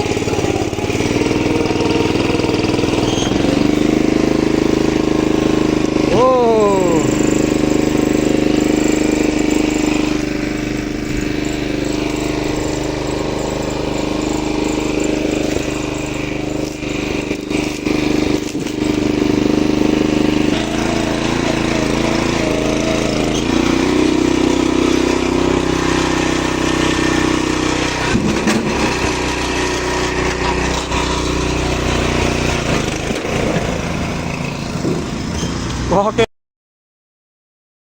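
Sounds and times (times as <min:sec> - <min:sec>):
small engine running: 0:00.0 - 0:36.3.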